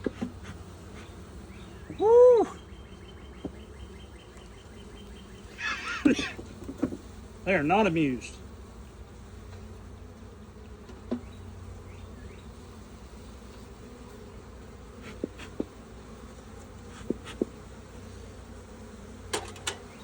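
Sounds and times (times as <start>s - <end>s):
honeybee colony buzzing: 0.0s - 20.0s.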